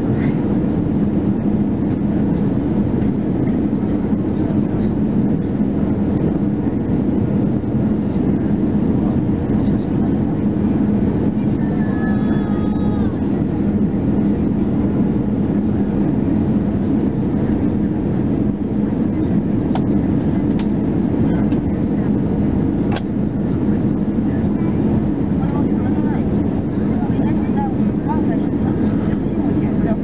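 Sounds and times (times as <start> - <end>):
jet engines humming: 0.0 - 30.0.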